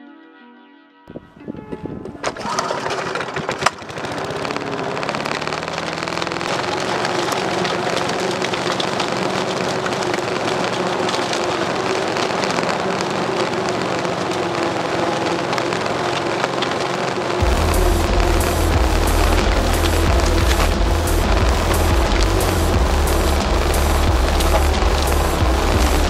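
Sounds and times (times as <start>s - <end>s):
lawn mower engine running: 2.0s - 26.0s
sharp crack: 2.1s - 26.0s.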